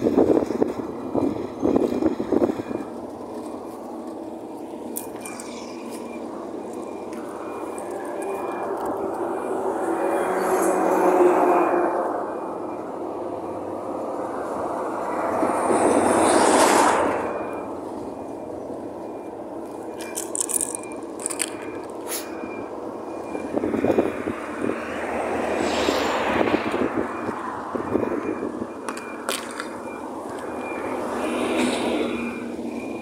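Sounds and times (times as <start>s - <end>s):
vehicles passing: 0.0s - 33.0s.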